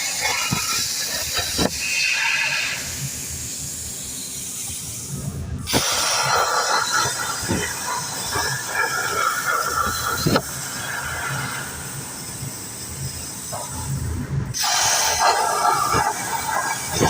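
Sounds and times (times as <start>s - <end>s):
laser cutting machine hissing: 0.0s - 17.0s.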